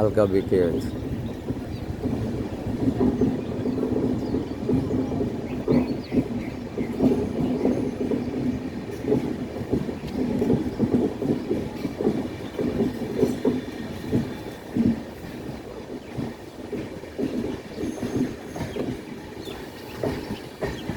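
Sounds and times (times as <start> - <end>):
passenger train rumble: 0.0 - 20.9
wheels clattering over track: 0.0 - 20.9.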